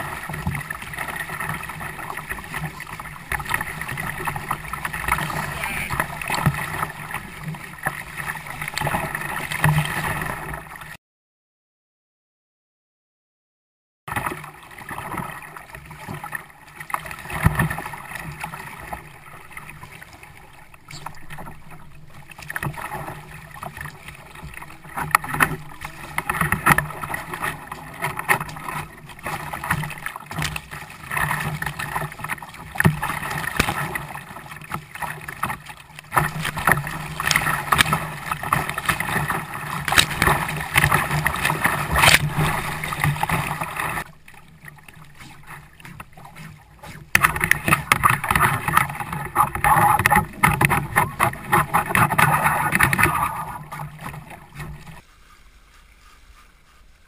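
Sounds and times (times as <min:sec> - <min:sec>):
knocks and splashes: 0:00.0 - 0:11.0, 0:14.1 - 0:55.0
water slapping against kayak hull: 0:00.0 - 0:11.0, 0:14.1 - 0:55.1.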